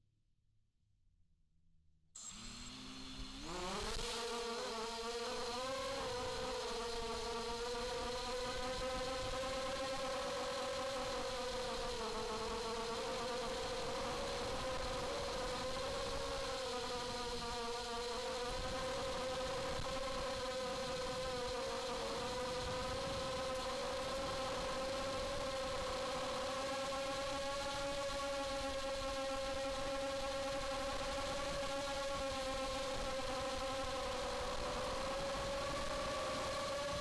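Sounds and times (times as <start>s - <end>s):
quadcopter motors whining: 2.2s - 37.0s.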